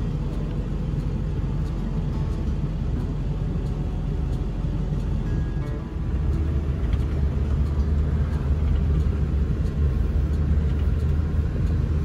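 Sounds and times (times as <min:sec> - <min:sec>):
vehicle driving on gravel: 0:00.0 - 0:12.0.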